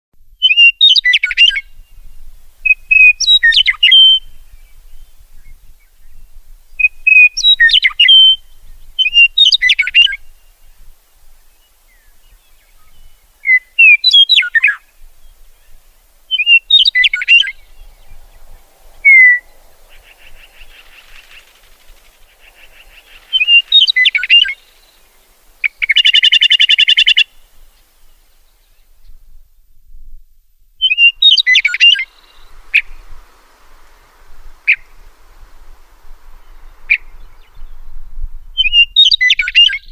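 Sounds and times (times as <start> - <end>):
meadowlark whistled song: 0.2 - 30.2, 30.8 - 39.9.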